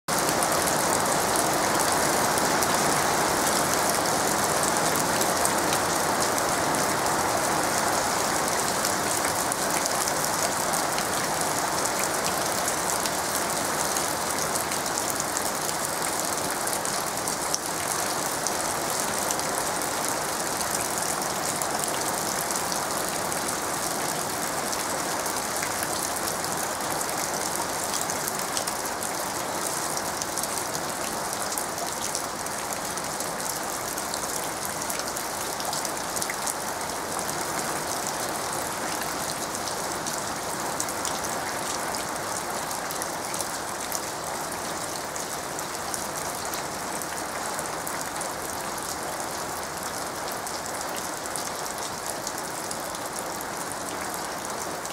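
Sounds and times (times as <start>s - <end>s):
rain pattering on leaves: 0.1s - 54.9s.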